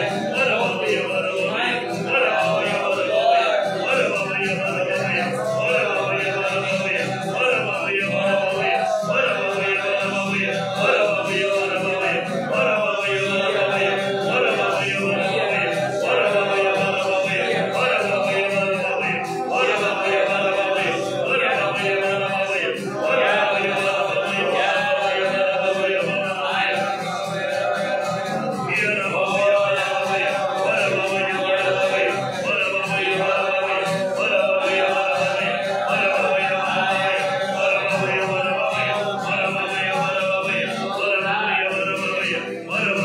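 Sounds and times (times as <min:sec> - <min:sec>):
slow vocal singing: 0:00.0 - 0:43.0.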